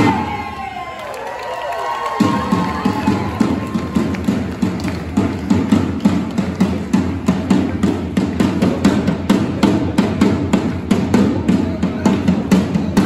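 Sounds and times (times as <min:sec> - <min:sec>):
marching drum beaten with sticks: 0:02.2 - 0:13.0.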